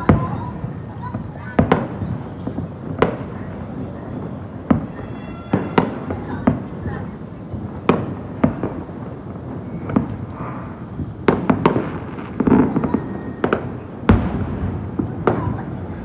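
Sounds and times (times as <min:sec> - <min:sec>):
fireworks bangs: 0:00.0 - 0:16.0
rumble of firework bursts: 0:00.0 - 0:16.0.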